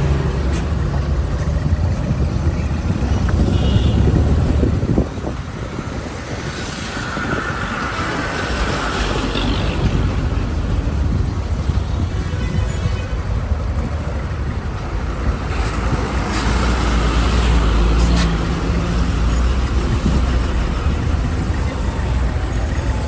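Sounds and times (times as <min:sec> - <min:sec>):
heavy vehicle engines rumbling: 0:00.0 - 0:23.0.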